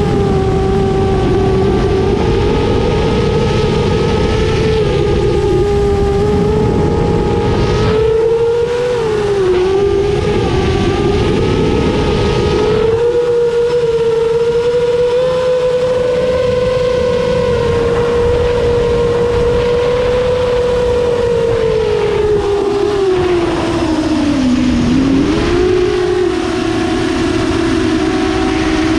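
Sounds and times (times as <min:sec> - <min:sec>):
quadcopter motors whining: 0:00.0 - 0:28.9.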